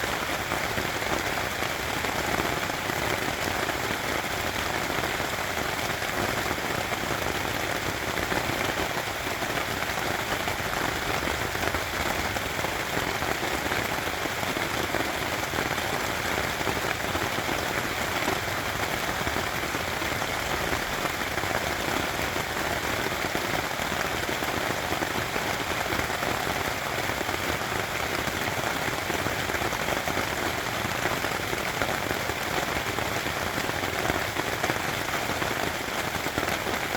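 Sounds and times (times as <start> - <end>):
rain pattering on tent fabric: 0.0 - 36.9.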